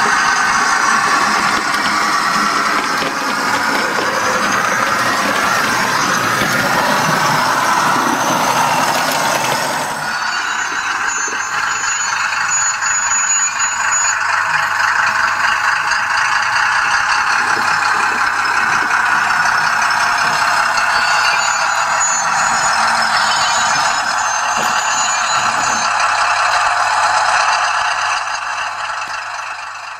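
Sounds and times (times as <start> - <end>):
high squeal: 0.0 - 29.9
model diesel engine sound: 0.0 - 29.9.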